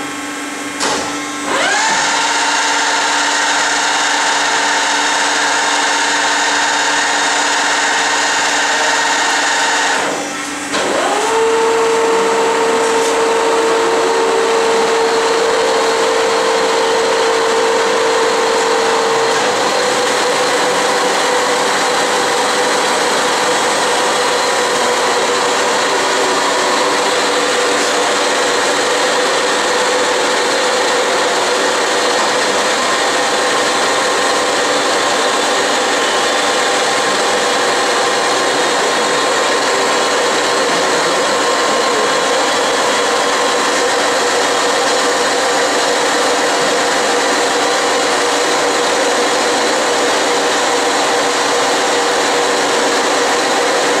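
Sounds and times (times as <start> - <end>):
machine drives whining: 0.0 - 54.0.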